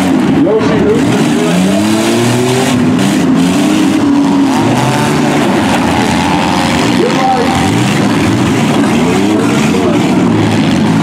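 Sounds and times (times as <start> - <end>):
minivan engines revving: 0.0 - 11.0
vans grinding together: 0.0 - 11.0.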